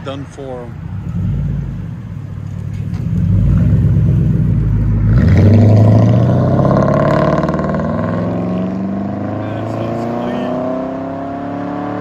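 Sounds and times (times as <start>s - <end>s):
car engine accelerating: 0.7s - 12.0s.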